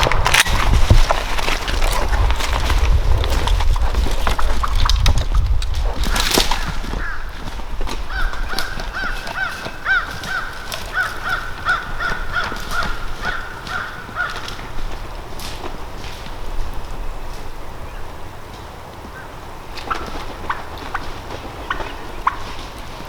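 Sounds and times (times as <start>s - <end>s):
rustling: 0.0s - 23.0s.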